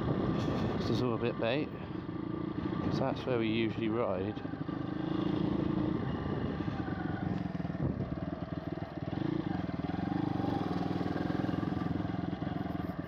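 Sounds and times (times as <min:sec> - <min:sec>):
small motorbike engine running: 0:01.9 - 0:13.0.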